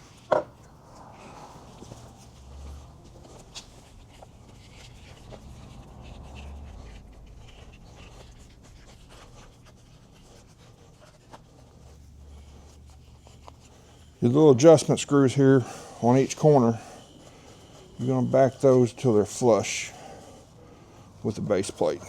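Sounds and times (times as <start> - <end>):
faint rubbing of rubber gasket: 0.0 - 22.0.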